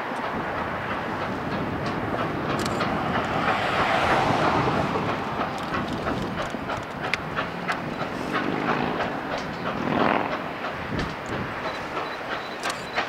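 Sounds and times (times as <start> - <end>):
steam locomotive rumbling: 0.0 - 13.0
wheels clicking over rail joints: 0.0 - 13.0.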